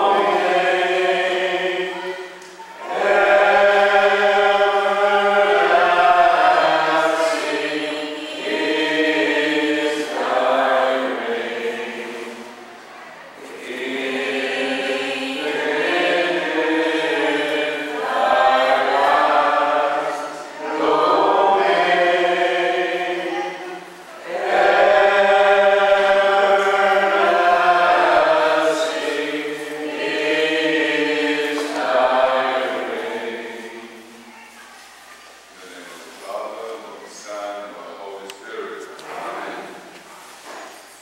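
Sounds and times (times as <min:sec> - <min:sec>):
congregation singing a chant: 0:00.0 - 0:34.6, 0:35.2 - 0:41.0.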